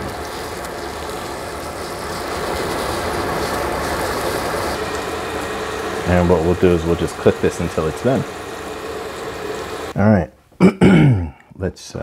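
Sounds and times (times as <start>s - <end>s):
sausage sizzling in oil: 0.0s - 10.0s.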